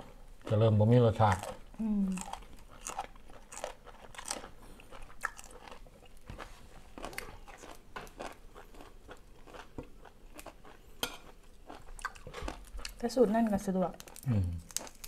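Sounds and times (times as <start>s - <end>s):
person chewing crunchy food: 0.0s - 13.0s, 14.0s - 15.0s.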